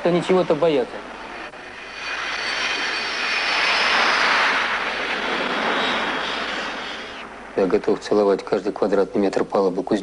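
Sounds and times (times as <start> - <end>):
jet engines passing low: 0.0 - 8.9
faint high whine: 0.0 - 10.0.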